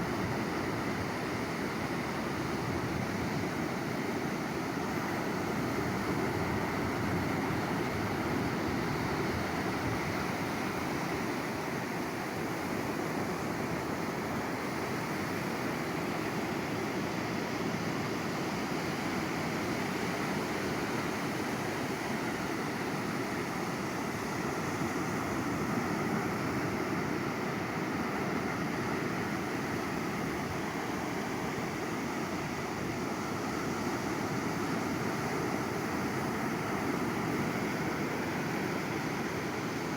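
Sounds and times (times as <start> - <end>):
surf rushing on shore: 0.0 - 39.9.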